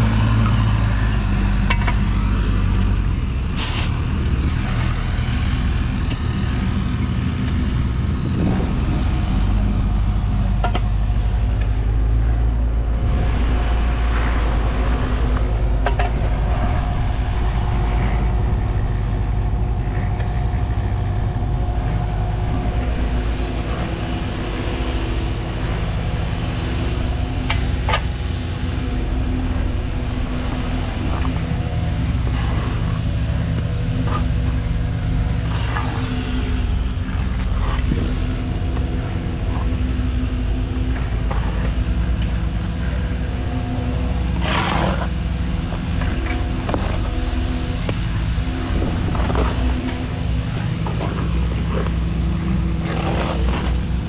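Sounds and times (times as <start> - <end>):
engine deep rumble: 0.0 - 54.0.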